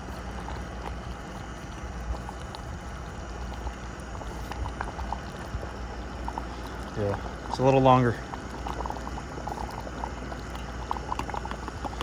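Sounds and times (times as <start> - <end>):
camp stove burner rumbling: 0.0 - 12.0
pot simmering: 0.0 - 12.0
small pops of boiling water: 0.0 - 12.0.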